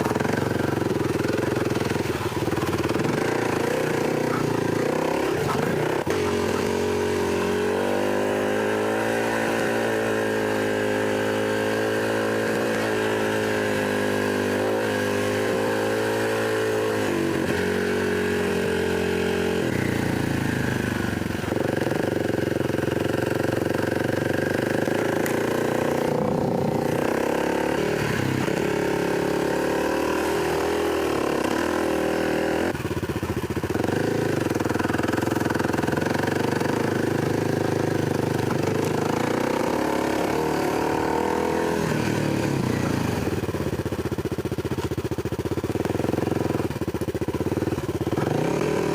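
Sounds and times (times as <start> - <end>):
dirt bike engine revving: 0.0 - 44.2, 45.6 - 48.9.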